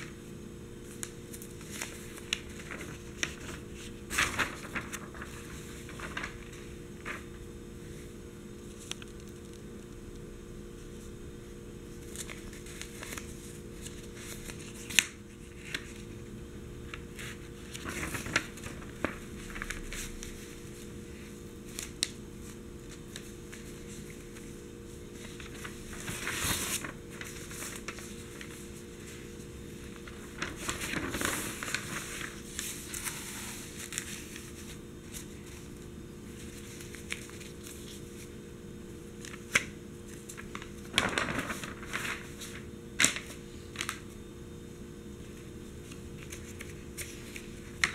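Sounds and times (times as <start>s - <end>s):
newspaper pages rustling: 0.0s - 10.0s, 11.9s - 16.2s, 16.9s - 38.4s, 39.0s - 44.2s, 45.2s - 47.9s.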